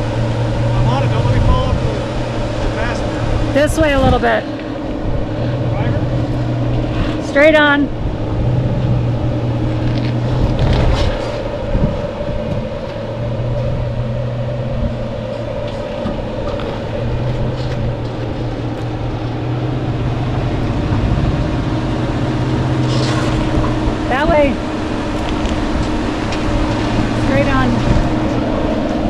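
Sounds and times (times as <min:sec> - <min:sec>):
truck engine crawling: 0:00.0 - 0:29.0.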